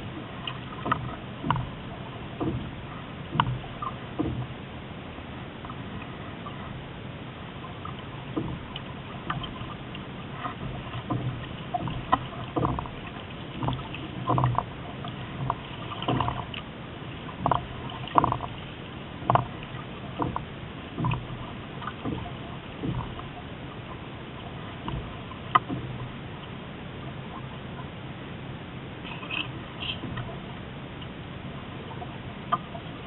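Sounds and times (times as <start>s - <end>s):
rushing water: 0.0s - 33.0s
water slapping against hull: 0.0s - 33.0s
wind: 0.0s - 33.0s.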